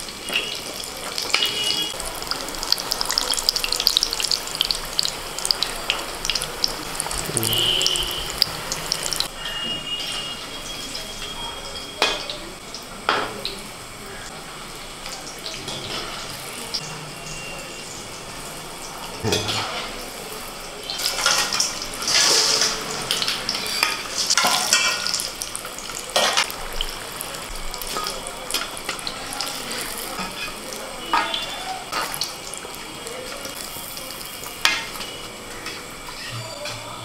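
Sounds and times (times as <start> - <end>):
deep-frying sizzle: 0.0 - 37.0.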